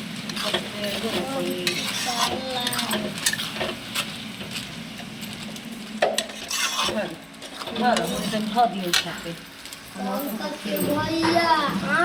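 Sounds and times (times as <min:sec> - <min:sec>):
vegetables sizzling in a pan: 0:00.0 - 0:10.8
utensil scraping and clinking: 0:00.3 - 0:11.3.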